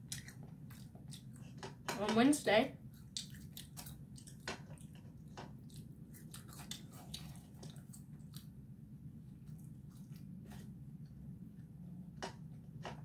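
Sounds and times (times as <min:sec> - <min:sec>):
faint chewing: 0:00.0 - 0:01.9, 0:02.8 - 0:13.0.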